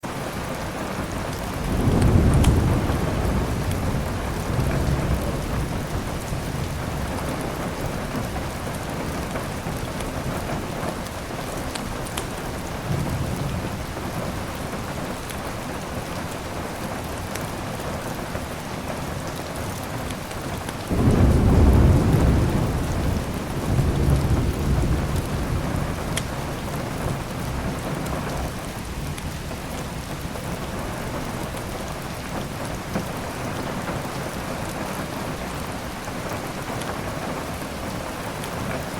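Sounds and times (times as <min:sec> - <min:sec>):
heavy rain: 0:00.0 - 0:38.9
thunder rumbling: 0:00.9 - 0:16.6, 0:20.8 - 0:38.3.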